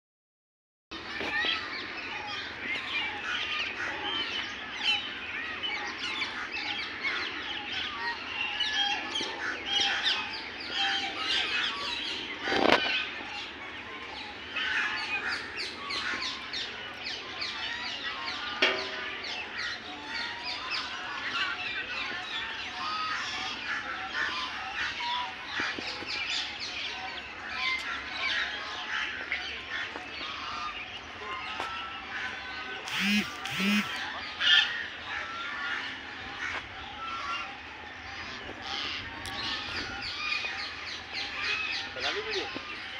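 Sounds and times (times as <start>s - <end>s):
geese honking: 5.8s - 25.8s, 26.8s - 42.9s.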